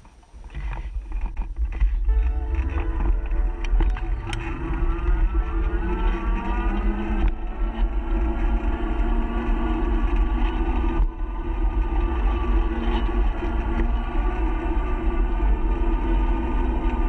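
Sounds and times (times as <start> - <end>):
steady hum of held tones: 0.0 - 17.0
wind rumbling on microphone: 0.0 - 17.0.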